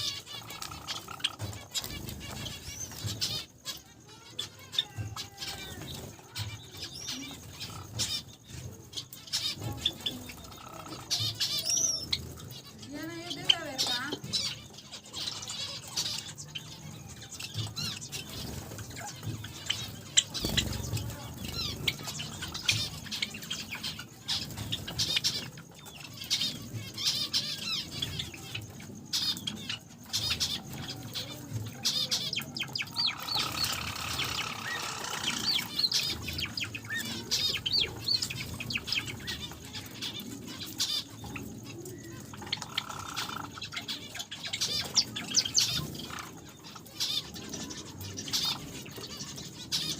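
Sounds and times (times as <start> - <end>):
wings fluttering: 0.0 - 16.1, 17.3 - 49.9
finches chirping: 0.0 - 49.9.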